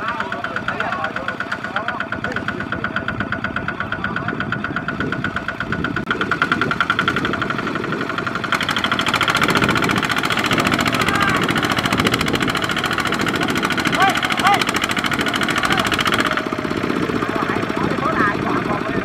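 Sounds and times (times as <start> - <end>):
diesel engine under heavy load: 0.0 - 19.0.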